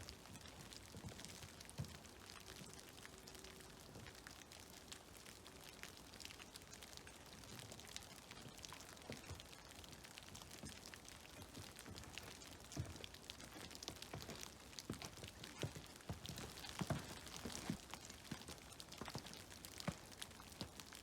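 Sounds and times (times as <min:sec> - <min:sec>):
water dripping from trees: 0:00.0 - 0:21.0.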